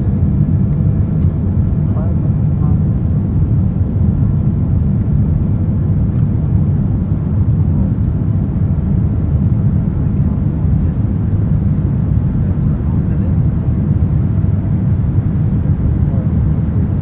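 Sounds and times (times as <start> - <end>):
jet airliner rumble: 0.0 - 17.0.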